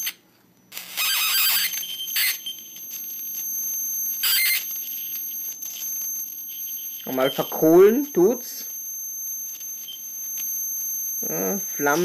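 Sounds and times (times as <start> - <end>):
electric arc crackling and buzzing: 0.0 - 12.0
steady high whine: 0.0 - 12.0.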